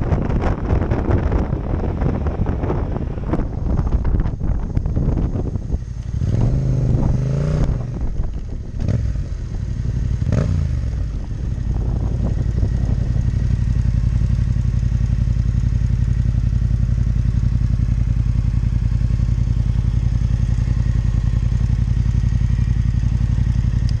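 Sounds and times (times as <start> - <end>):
motorcycle engine revving and idling: 0.0 - 24.0.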